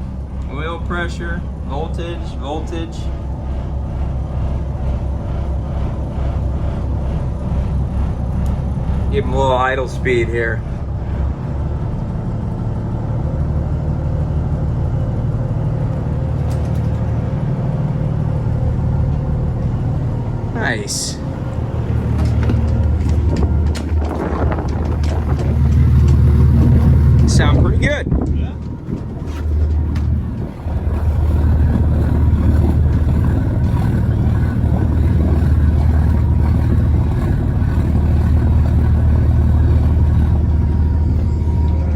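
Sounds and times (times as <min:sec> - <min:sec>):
diesel engines idling: 0:00.0 - 0:41.9.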